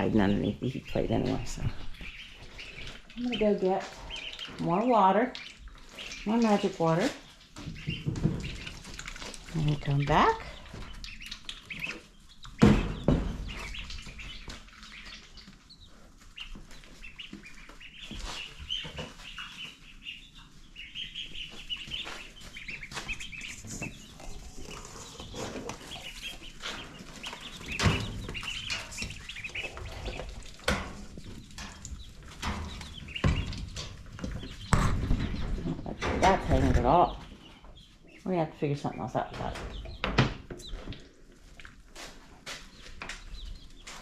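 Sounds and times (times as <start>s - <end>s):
chickens clucking: 0.0s - 44.0s
chicks peeping: 0.0s - 44.0s.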